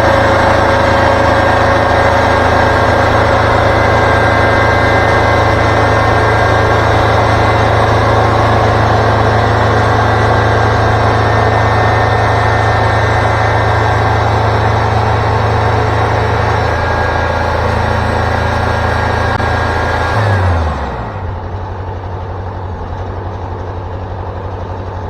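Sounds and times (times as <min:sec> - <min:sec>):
sawmill engine humming: 0:00.0 - 0:25.0.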